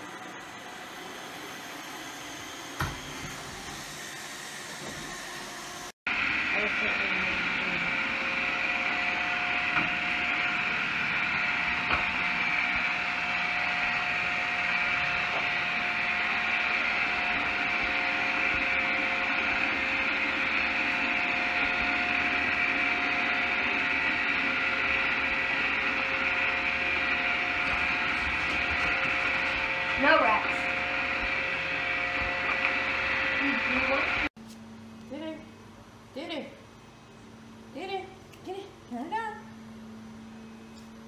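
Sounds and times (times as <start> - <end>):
robot vacuum whirring: 0.2 - 34.3.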